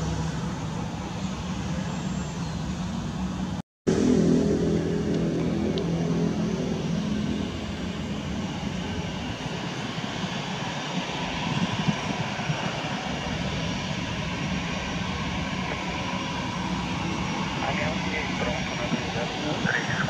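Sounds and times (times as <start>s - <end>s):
jet engines at taxi thrust: 0.0s - 20.0s.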